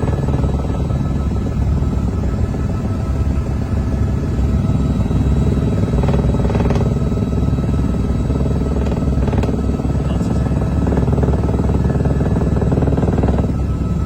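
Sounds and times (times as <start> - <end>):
helicopter engine and rotor chop: 0.0 - 14.0.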